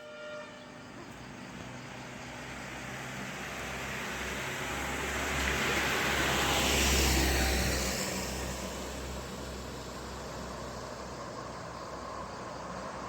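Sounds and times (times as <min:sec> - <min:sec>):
heavy vehicle passing: 0:01.8 - 0:13.0.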